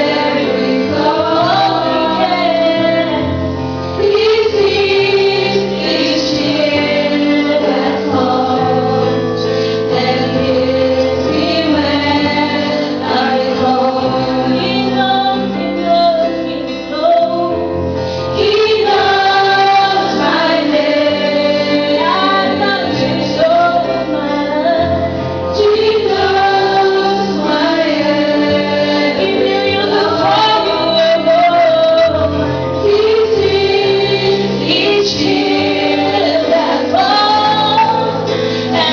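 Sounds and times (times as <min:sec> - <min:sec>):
women and choir singing gospel: 0:00.0 - 0:38.9.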